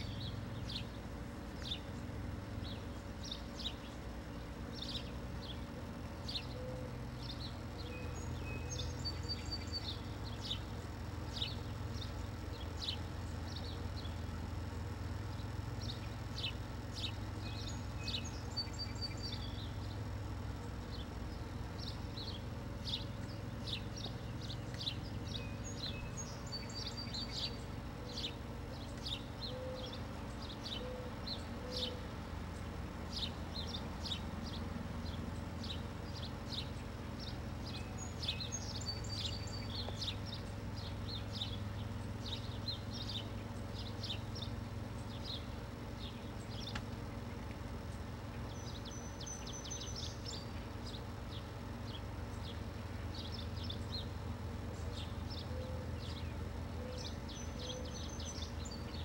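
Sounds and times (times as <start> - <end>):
low background hum: 0.0 - 59.0
small birds chirping: 0.0 - 59.0.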